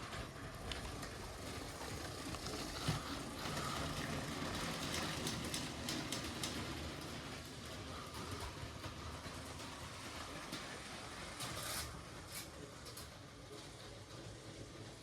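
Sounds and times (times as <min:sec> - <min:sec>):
toy train rumbling on plastic track: 0:00.0 - 0:15.0.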